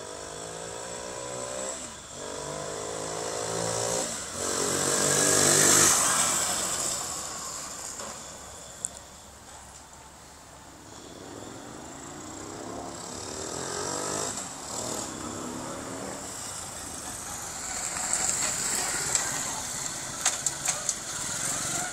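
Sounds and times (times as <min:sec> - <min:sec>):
small motorcycle engine accelerating: 0:00.0 - 0:09.0, 0:11.0 - 0:21.9.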